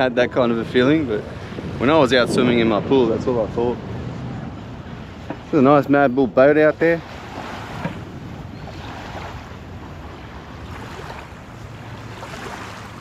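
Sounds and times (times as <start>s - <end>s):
small waves lapping on shore: 0.0s - 13.0s
wind rumble on microphone: 0.0s - 13.0s.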